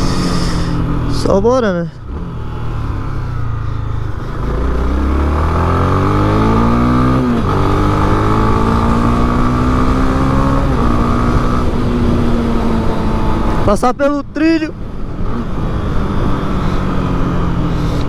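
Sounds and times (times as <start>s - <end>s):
motorcycle engine accelerating: 0.0s - 13.9s, 14.5s - 18.0s.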